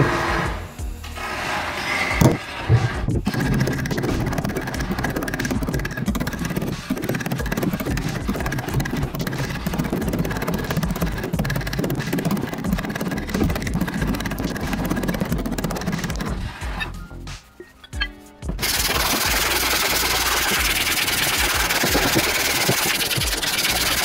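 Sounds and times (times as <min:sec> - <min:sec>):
file rasping across steel: 0:01.2 - 0:24.0.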